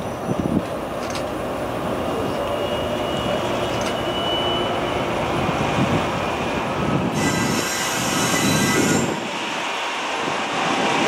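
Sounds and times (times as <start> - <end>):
freight train engine and wheel rumble: 0.0 - 11.0.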